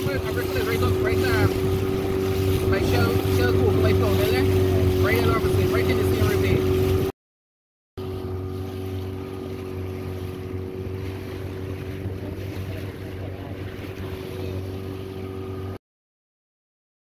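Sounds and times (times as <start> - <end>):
outboard motor running: 0.0 - 7.1, 8.0 - 15.8
water rushing: 0.0 - 7.1, 8.0 - 15.8.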